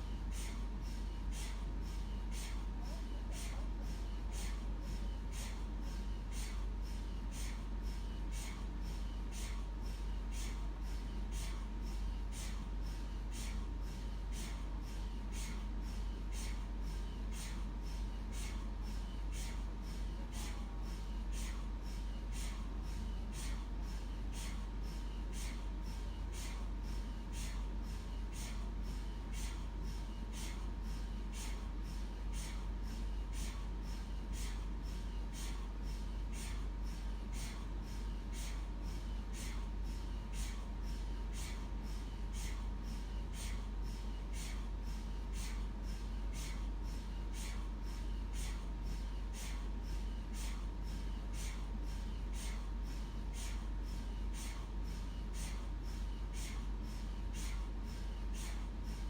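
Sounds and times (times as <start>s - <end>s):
deep steady hum: 0.0s - 59.0s
rhythmic tapping: 0.0s - 59.0s.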